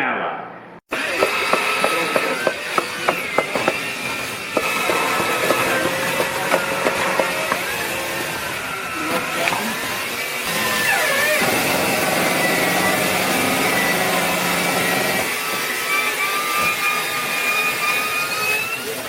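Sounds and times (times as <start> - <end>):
machine motor whining: 0.9 - 19.0.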